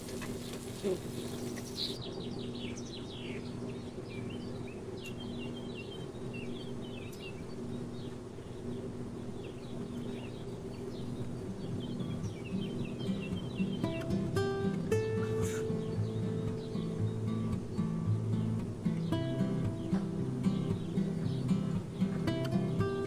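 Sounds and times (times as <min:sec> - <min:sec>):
birds chirping and twittering: 0:00.0 - 0:23.0.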